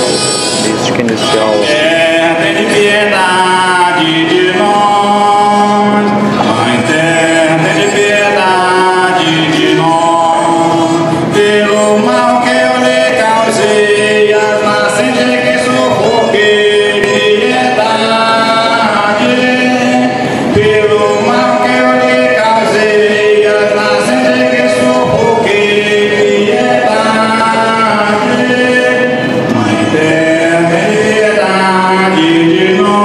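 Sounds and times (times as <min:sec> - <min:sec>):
man singing a hymn: 0:00.0 - 0:33.0.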